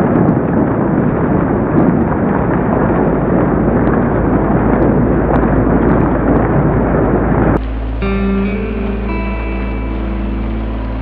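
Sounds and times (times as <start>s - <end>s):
heavy hail and rain: 0.0s - 11.0s.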